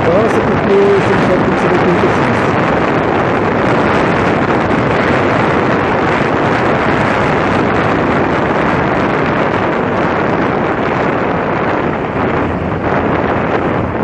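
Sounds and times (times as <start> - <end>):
motorcycle running noise: 0.0 - 14.0
wind buffeting microphone: 0.0 - 14.0.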